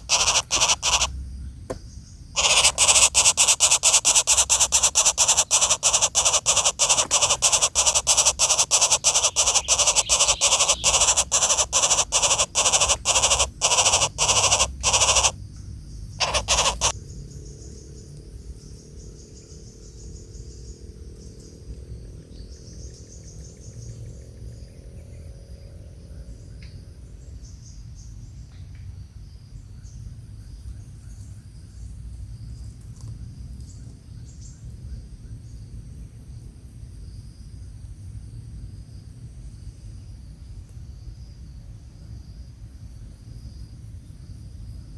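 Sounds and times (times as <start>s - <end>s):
insects chirping in trills: 0.0s - 44.9s
low rumble of background noise: 0.0s - 44.9s.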